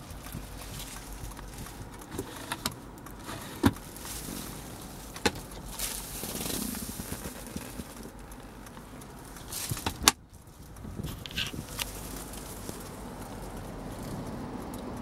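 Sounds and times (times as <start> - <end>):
rustling: 0.0 - 14.4.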